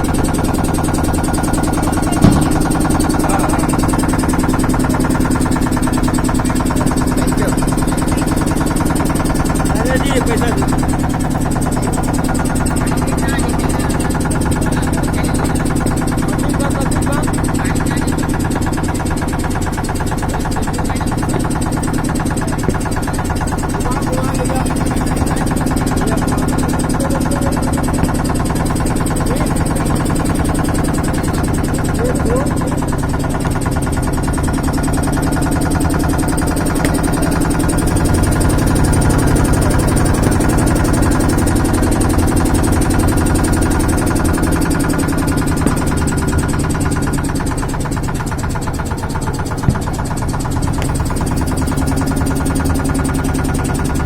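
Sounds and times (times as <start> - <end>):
loud engine drone: 0.0 - 54.0.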